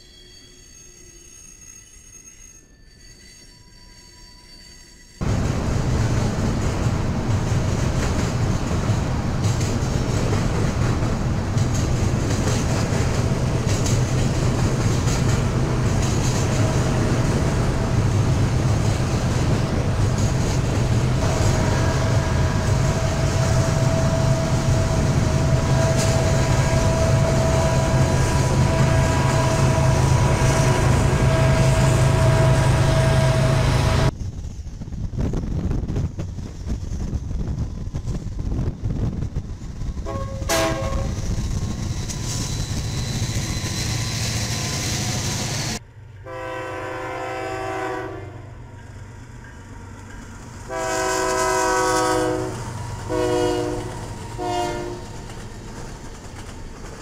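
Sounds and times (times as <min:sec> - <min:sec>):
freight train rumbling past: 0:04.5 - 0:57.0.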